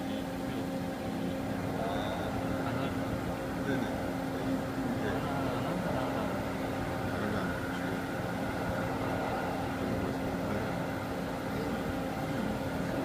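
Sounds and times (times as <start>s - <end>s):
milling machine drone: 0.0s - 13.0s.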